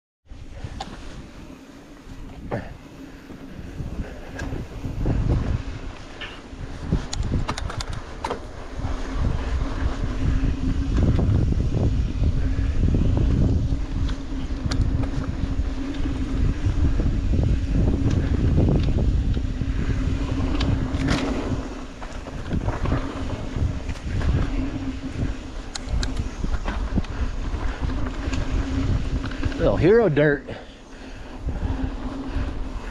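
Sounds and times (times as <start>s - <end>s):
steady buzz: 0.3s - 32.9s
wind buffeting microphone: 0.3s - 32.9s
bike clicks and rattles: 0.4s - 32.9s
tyres rumbling on dirt: 1.2s - 32.9s.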